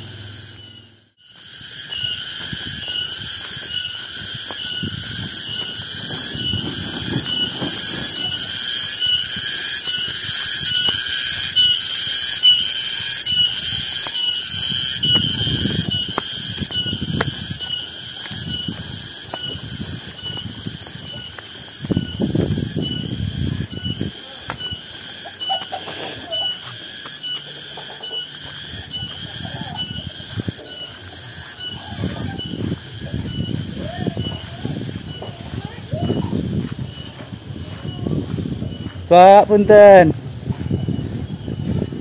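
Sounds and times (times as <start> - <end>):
cicadas pulsing chorus: 0.0 - 42.0.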